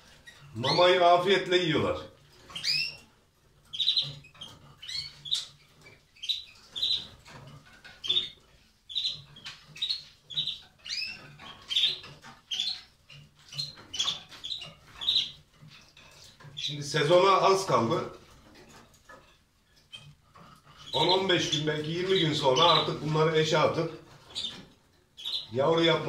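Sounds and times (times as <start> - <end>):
canaries chirping: 0.0 - 26.0.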